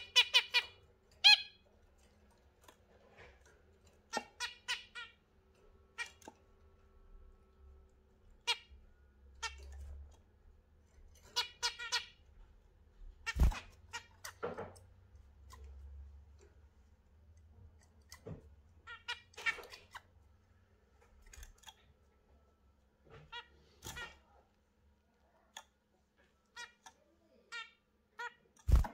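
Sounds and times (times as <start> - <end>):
birds chirping: 0.0 - 24.5.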